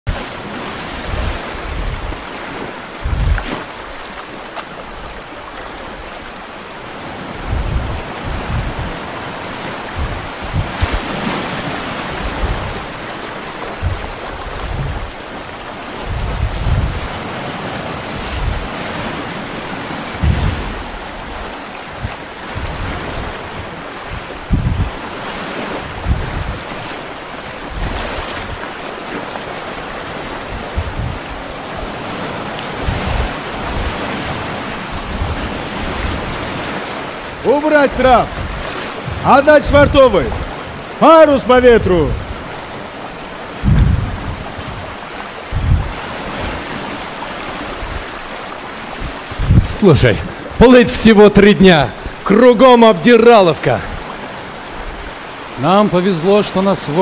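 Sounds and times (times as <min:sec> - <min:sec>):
wind: 0:00.0 - 0:57.0
ocean surf: 0:00.1 - 0:57.0.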